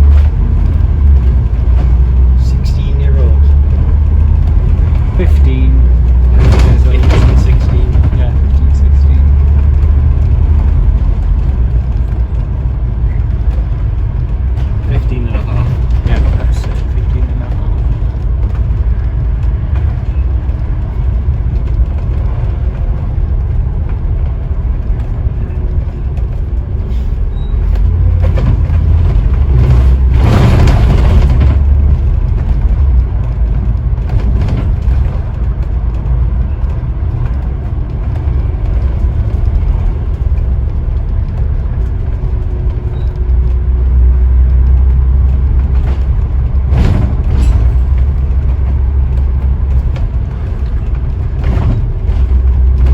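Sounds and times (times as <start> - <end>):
bus engine rumbling: 0.0 - 52.9.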